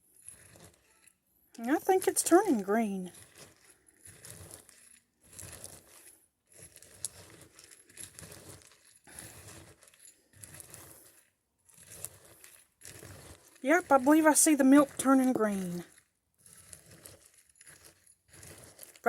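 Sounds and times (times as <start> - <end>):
spoon stirring cereal in milk: 0.1 - 19.0.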